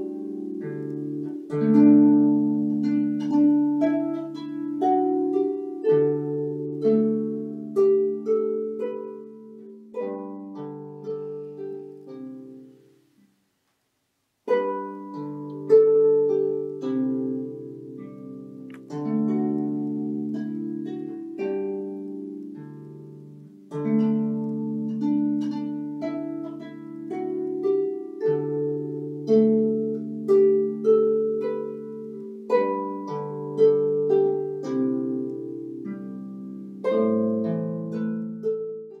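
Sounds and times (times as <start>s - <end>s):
solo harp playing: 0.0s - 13.3s, 14.4s - 39.0s.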